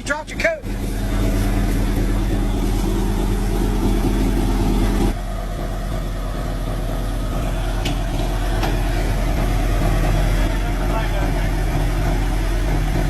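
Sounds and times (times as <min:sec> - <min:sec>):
old vehicle engine running: 0:00.0 - 0:13.0.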